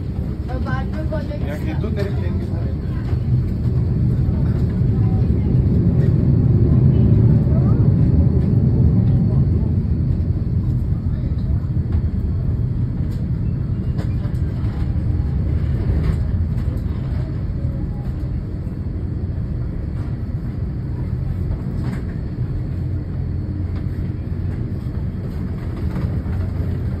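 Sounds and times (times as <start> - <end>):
airliner towing rumble: 0.0 - 27.0.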